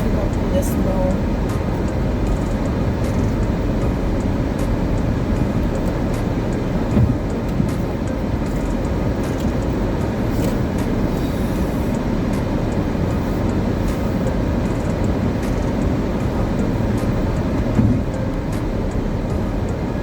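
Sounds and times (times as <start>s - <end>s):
car bump: 0.0s - 20.0s
car engine and road noise: 0.0s - 20.0s.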